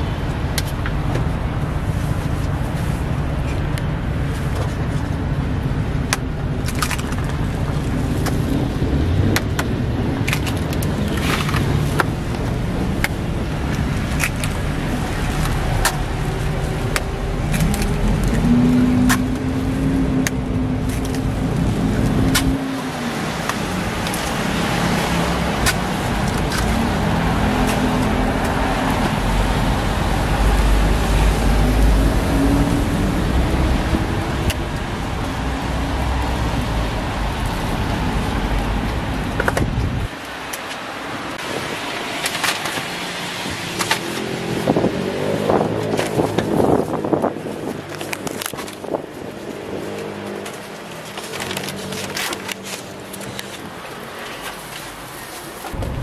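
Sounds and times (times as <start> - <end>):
motor vehicles passing: 0.0 - 56.0.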